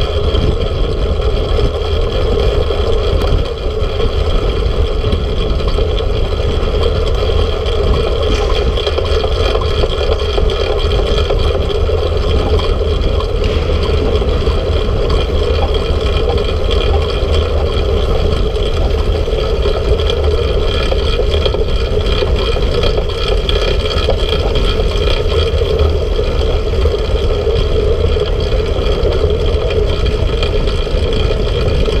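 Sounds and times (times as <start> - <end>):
bicycle tyres and drivetrain hum: 0.0 - 32.0
wind rumble on microphone: 0.0 - 32.0.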